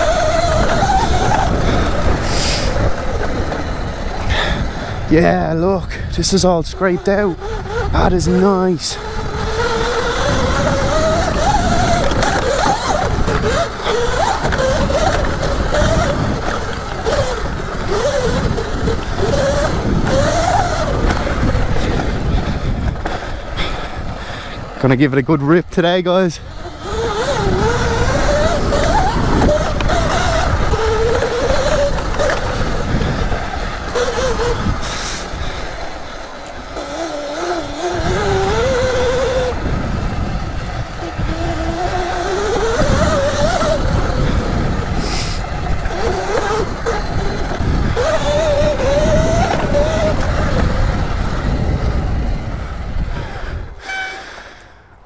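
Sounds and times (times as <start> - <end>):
wind rumble on microphone: 0.0 - 54.6
electric motor whining: 0.0 - 55.0.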